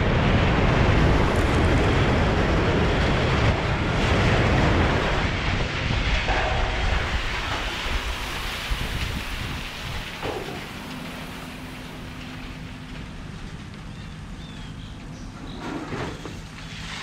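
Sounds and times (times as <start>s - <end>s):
building collapsing rumble: 0.0s - 15.4s.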